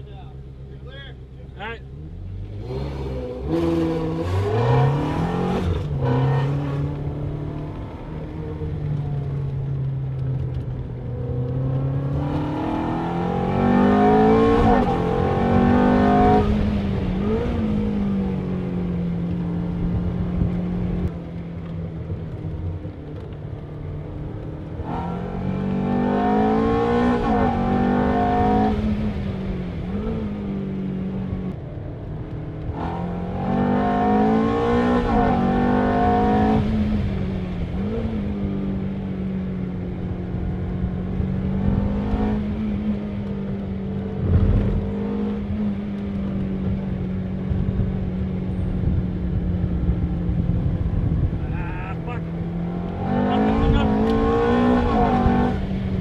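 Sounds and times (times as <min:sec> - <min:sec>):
car engine accelerating with gear changes: 0:00.0 - 0:56.0.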